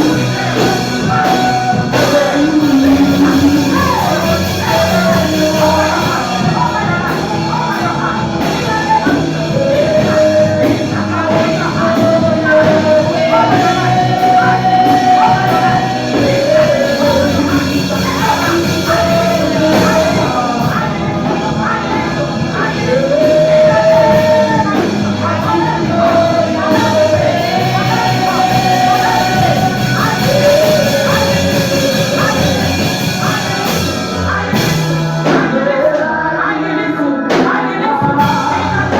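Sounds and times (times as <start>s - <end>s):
band with drums: 0.0s - 36.1s, 37.3s - 38.9s
lead singer holding long notes: 0.0s - 38.9s.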